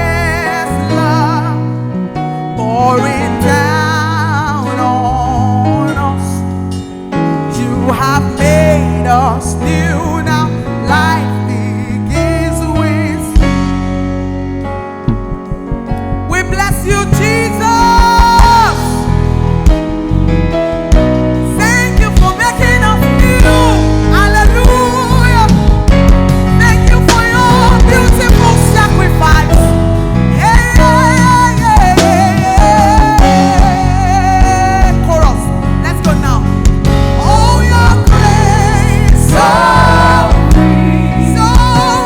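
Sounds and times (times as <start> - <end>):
bass: 0.0 - 42.0
guitar: 0.0 - 42.0.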